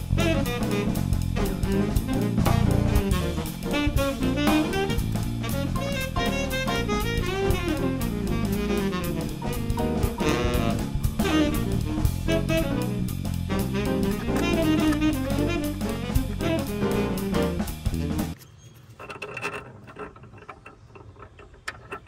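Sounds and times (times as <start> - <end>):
jazz music with saxophone: 0.0 - 18.4.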